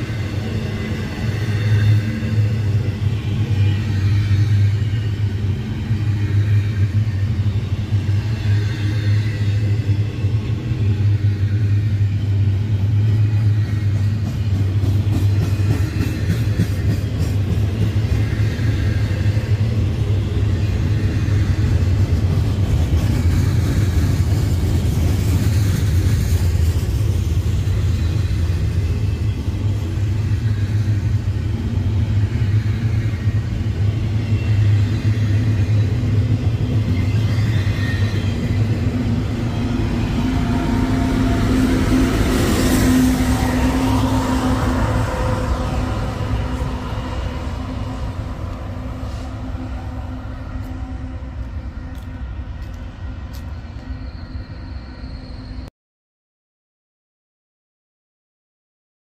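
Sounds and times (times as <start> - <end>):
freight cars rumbling on rails: 0.0 - 55.7.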